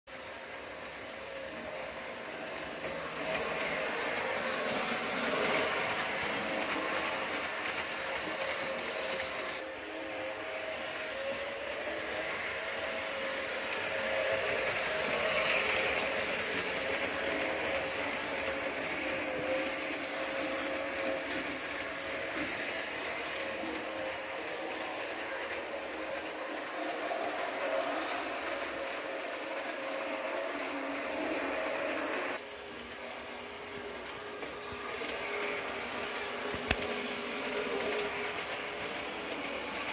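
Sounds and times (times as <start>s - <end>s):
model train motor hum: 0.1s - 39.9s
small wheels rolling on track: 0.1s - 39.9s.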